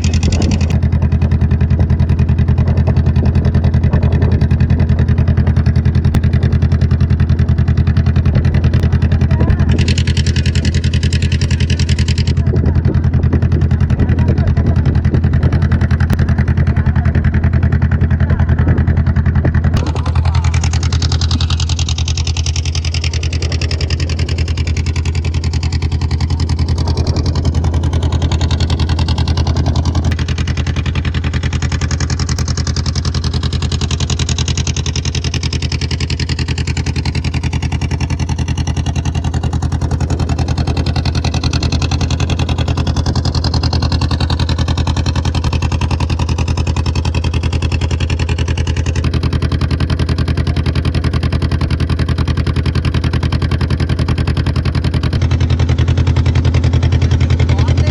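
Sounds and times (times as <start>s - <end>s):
motorboat engine droning: 0.0s - 57.9s.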